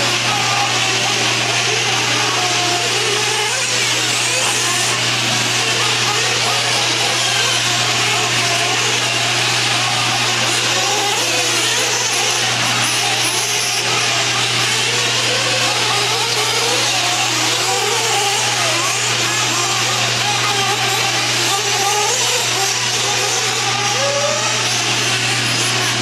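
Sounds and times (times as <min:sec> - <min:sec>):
model car engines buzzing: 0:00.0 - 0:26.0.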